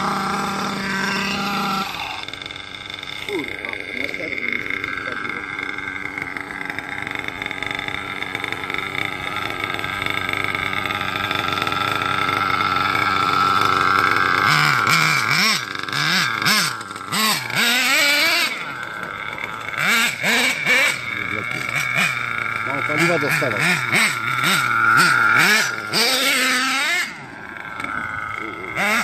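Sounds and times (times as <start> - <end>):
rc truck engine revving: 0.0 - 29.0.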